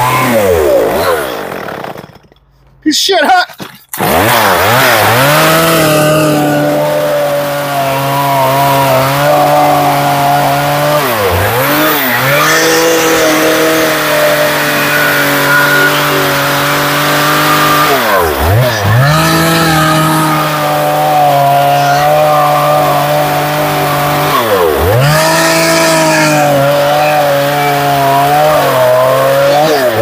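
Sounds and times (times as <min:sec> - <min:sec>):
chainsaw cutting wood: 0:00.0 - 0:02.5, 0:03.9 - 0:30.0.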